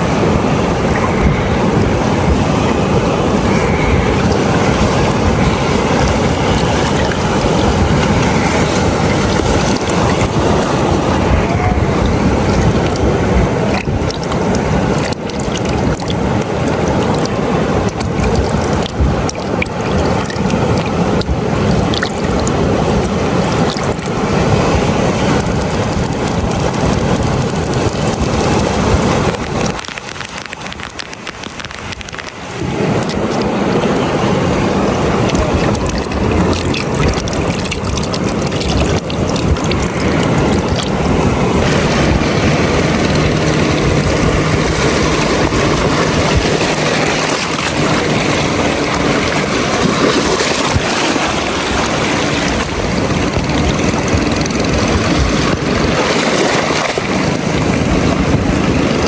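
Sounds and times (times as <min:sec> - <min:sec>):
surf rushing: 0:00.0 - 0:59.0
wind buffeting microphone: 0:00.0 - 0:59.0.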